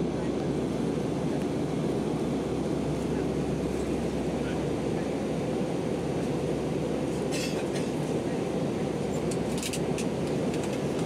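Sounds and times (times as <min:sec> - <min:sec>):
airplane cabin noise in flight: 0:00.0 - 0:11.0.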